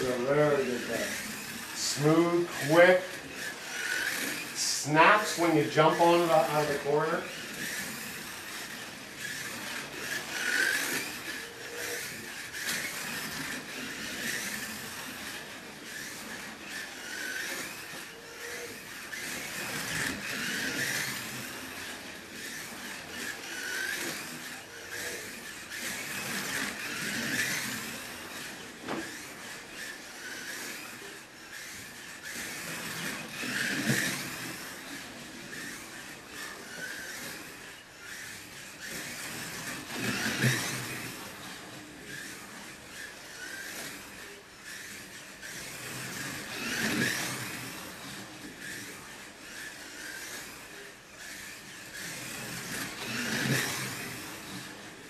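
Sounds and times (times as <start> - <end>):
slot car motor whining: 0.0 - 55.0.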